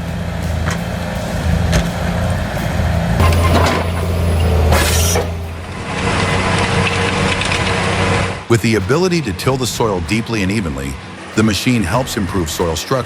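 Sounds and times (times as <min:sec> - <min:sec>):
sharp cracks: 0:00.0 - 0:12.0
diesel engine under load: 0:00.0 - 0:13.0
loud hiss: 0:00.0 - 0:13.0.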